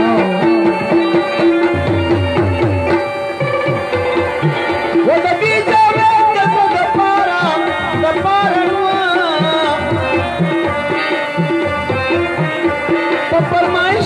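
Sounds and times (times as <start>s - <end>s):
tabla beat: 0.0s - 14.0s.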